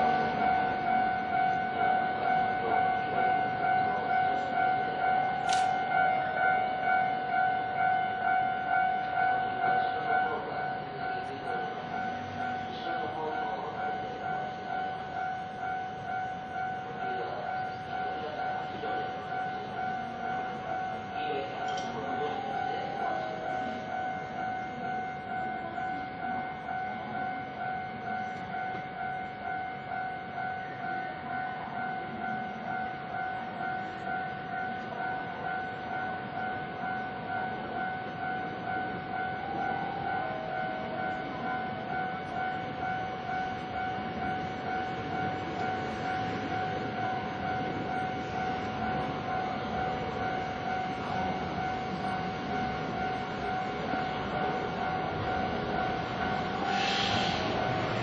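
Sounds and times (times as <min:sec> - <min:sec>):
level-crossing warning bell: 0:00.0 - 0:58.0.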